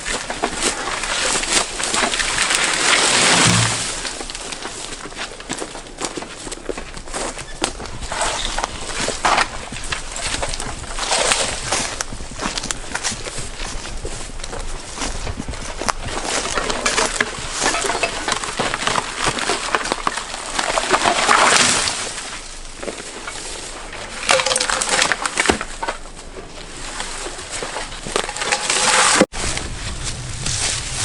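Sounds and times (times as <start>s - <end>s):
crunching of dry twigs: 0.0s - 31.0s.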